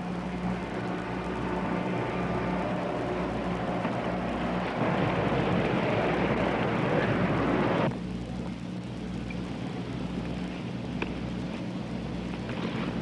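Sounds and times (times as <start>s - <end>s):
loud background noise: 0.0s - 13.0s
low electrical hum: 0.0s - 13.0s.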